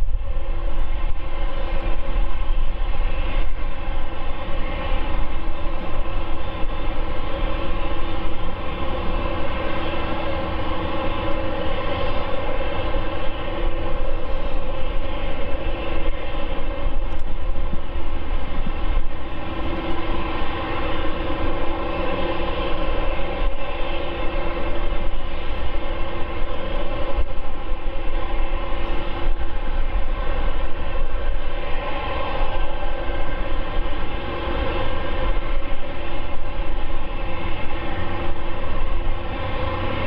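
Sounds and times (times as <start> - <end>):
jet engines humming and whining: 0.0 - 40.0.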